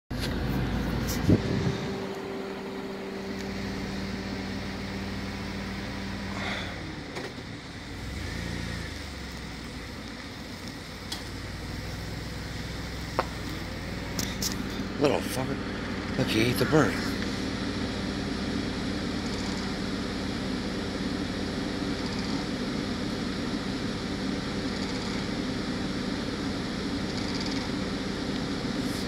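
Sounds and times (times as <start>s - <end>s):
car engine humming: 0.1s - 29.0s.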